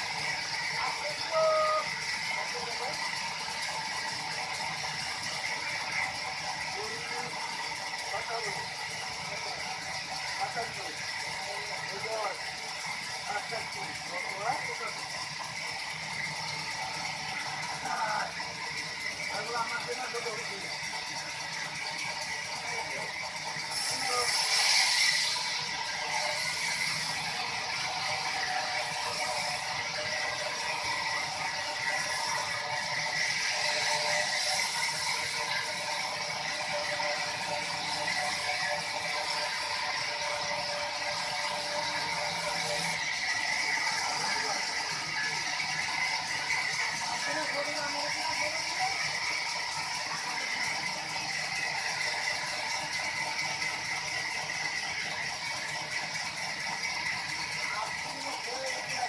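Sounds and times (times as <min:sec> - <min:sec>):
sawmill machinery rattling: 0:00.0 - 0:59.0.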